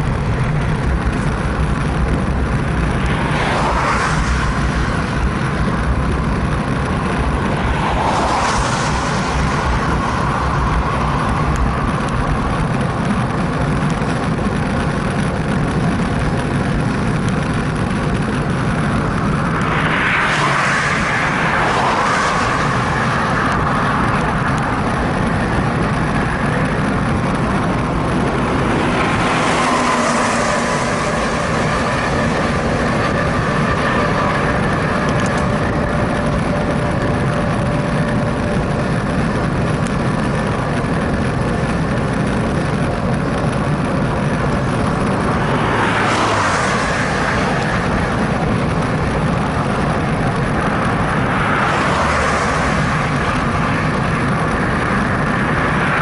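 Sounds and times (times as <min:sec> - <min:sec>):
cars passing: 0:00.0 - 0:56.0
road noise: 0:00.0 - 0:56.0
wind rushing: 0:00.0 - 0:56.0.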